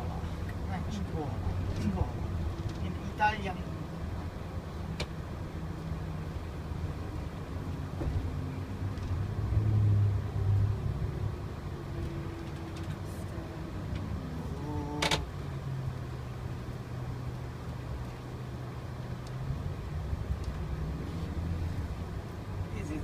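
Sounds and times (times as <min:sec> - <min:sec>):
bus engine running: 0:00.0 - 0:23.0
road noise: 0:00.0 - 0:23.0.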